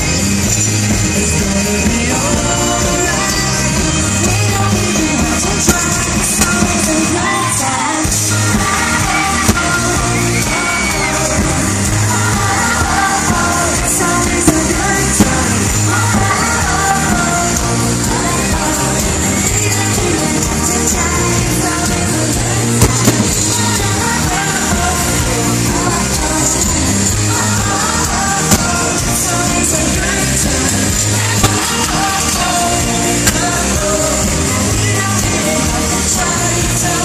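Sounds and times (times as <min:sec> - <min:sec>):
live pop band playing: 0:00.0 - 0:37.0
woman singing: 0:00.0 - 0:37.0.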